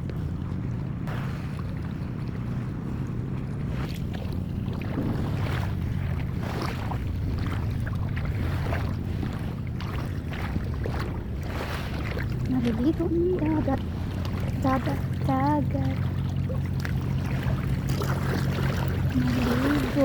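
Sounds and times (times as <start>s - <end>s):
low seaside rumble: 0.0s - 20.0s
shallow water splashing: 0.0s - 20.0s.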